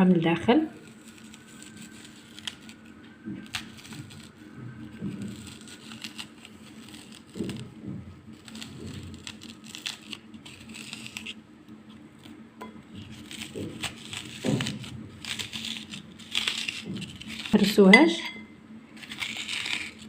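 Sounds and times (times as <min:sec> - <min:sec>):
onion crunching and scraping: 0:00.6 - 0:17.9, 0:18.9 - 0:20.0.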